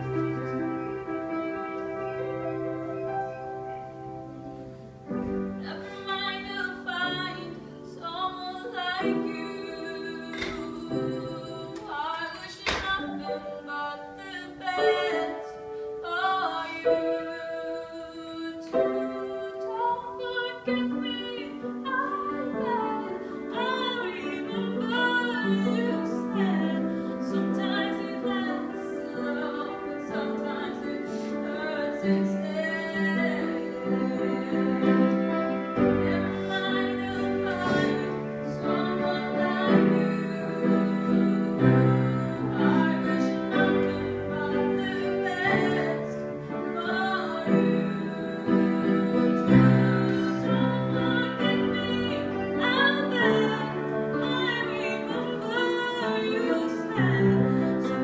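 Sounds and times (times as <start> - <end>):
piano chords: 0.0 - 58.0
girl singing: 5.5 - 58.0.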